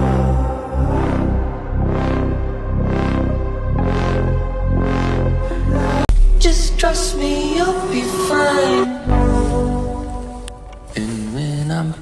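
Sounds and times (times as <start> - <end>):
deep held bass note: 0.0 - 10.7.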